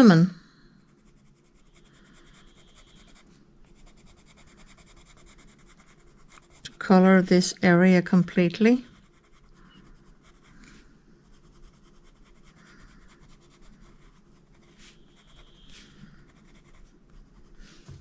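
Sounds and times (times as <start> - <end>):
pencil scratching on paper: 0.9 - 7.3, 8.8 - 18.0.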